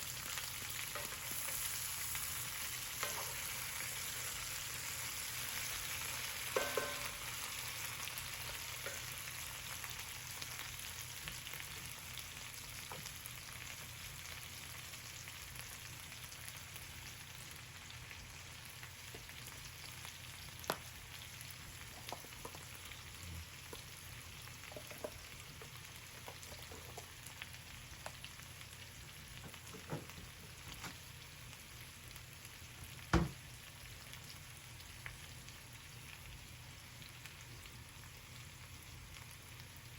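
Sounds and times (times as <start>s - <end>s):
food sizzling in a frying pan: 0.0s - 39.9s
small cooking clicks: 0.0s - 39.9s.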